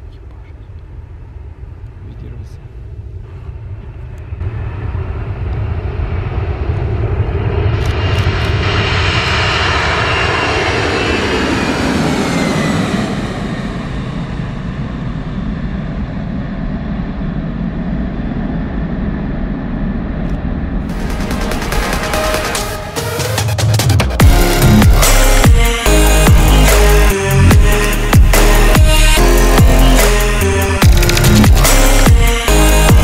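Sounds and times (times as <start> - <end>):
high jet whine: 0.0 - 33.0
jet engines roaring: 0.0 - 33.0.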